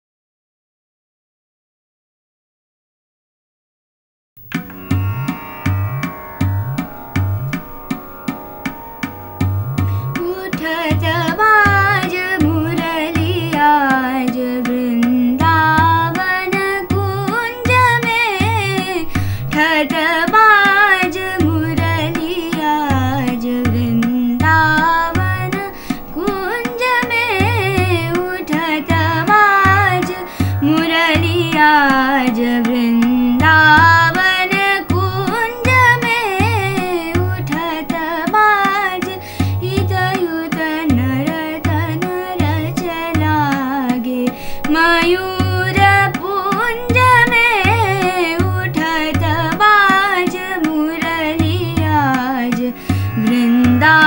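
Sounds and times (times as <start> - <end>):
tabla rhythm: 4.4 - 54.0
woman singing: 10.1 - 54.0.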